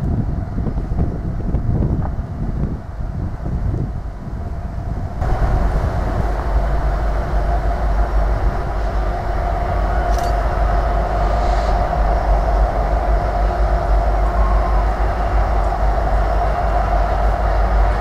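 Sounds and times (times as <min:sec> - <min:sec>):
diesel locomotive engine rumble: 0:00.0 - 0:18.0
train rolling noise: 0:00.0 - 0:18.0.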